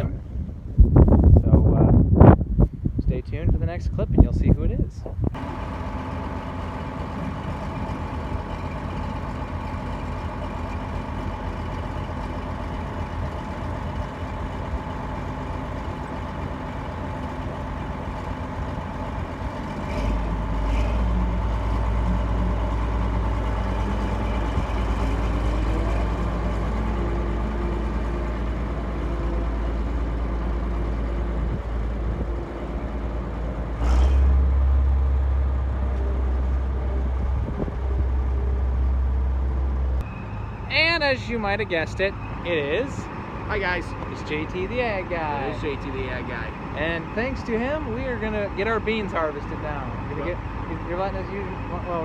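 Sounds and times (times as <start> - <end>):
truck engine running: 5.0 - 52.0
deep loud drone: 5.3 - 52.0.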